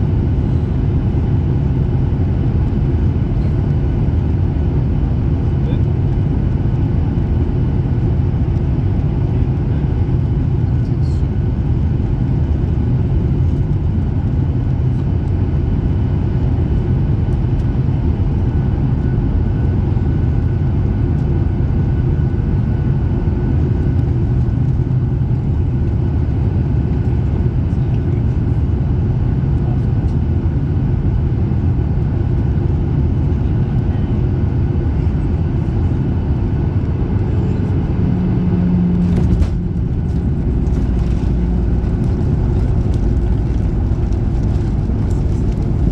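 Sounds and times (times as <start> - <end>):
airplane cabin rumble: 0.0 - 45.9
faint jet engine whine: 0.0 - 45.9.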